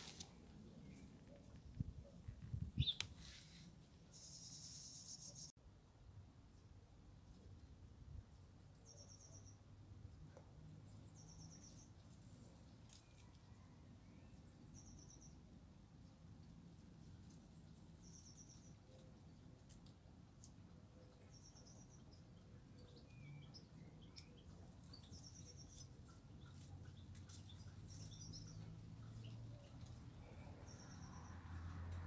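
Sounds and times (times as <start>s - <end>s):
small birds chirping: 0.0s - 5.5s, 8.5s - 32.0s.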